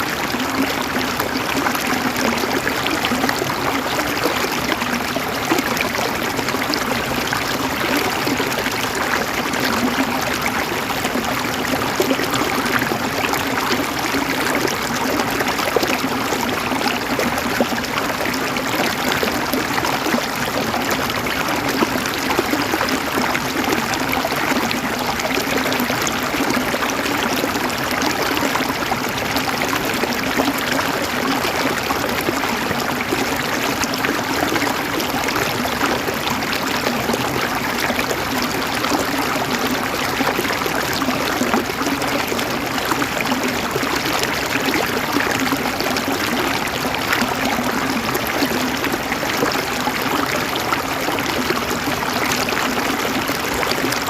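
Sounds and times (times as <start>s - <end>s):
river flowing over stones: 0.0s - 54.0s.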